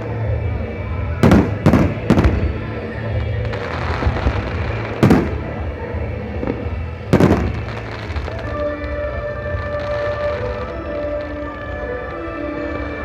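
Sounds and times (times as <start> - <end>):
fireworks booming: 0.0 - 13.0
rumble of fireworks bursts: 0.0 - 13.0.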